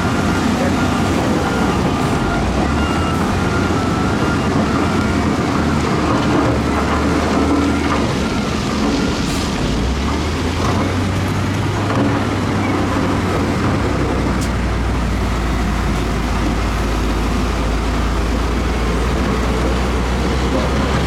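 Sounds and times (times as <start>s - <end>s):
diesel machinery engine drone: 0.0s - 21.0s.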